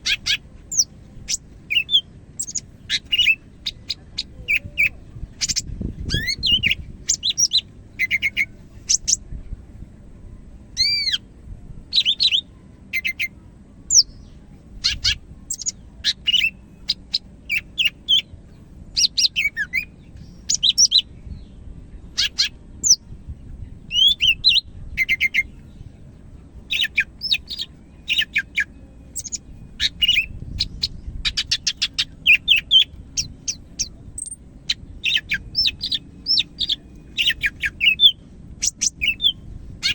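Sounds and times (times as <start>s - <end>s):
bird singing chirps and trills: 0.0s - 9.4s, 10.2s - 39.9s.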